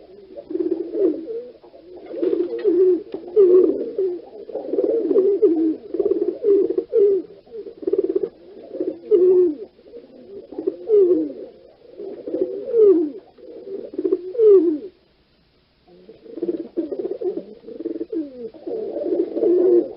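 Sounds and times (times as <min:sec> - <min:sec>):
pigeons cooing: 0:00.0 - 0:15.0, 0:15.9 - 0:19.9.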